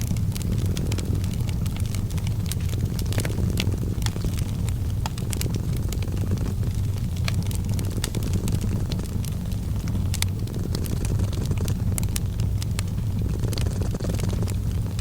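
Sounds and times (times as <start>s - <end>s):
cat purring: 0.0s - 15.0s
wood fire crackling: 0.0s - 15.0s.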